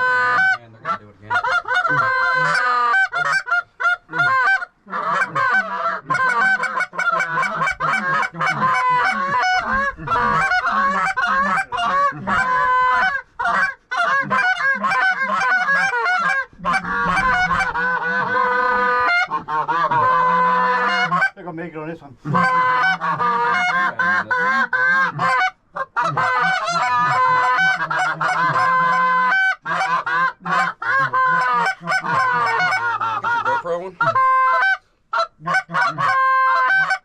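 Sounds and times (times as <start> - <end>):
goose honking and clucking: 0.0 - 37.0.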